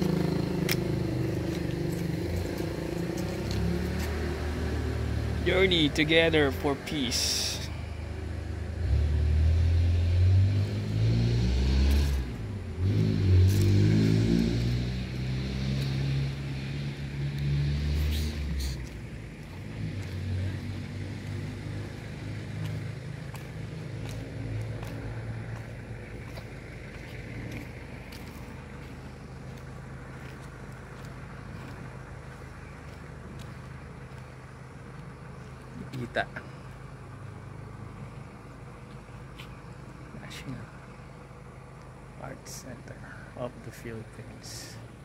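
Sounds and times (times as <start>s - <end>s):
vehicle engine revving: 0.0s - 42.6s
low motor hum: 0.0s - 43.3s.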